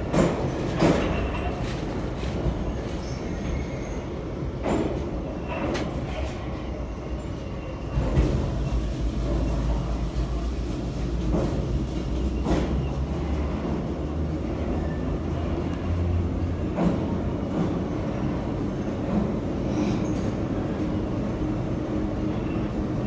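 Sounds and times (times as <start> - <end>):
metro train wheels rumbling: 0.0 - 23.0.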